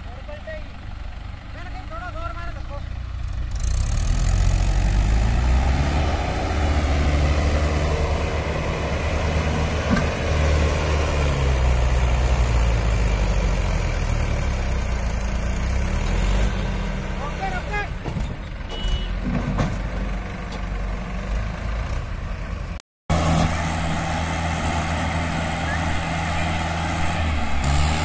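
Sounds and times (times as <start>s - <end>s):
diesel engines running hard: 0.0s - 28.0s.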